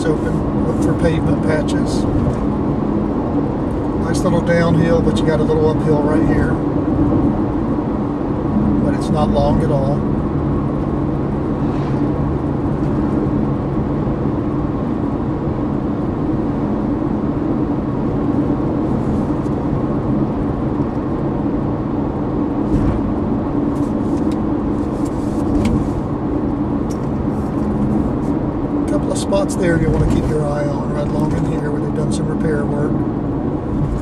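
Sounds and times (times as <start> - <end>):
car engine hum: 0.0 - 34.0.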